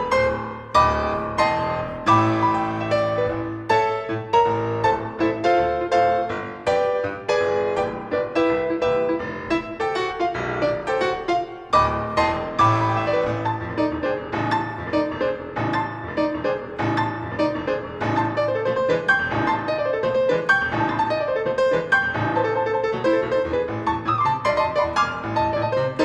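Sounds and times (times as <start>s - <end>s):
grand piano classical piece: 0.0s - 26.0s.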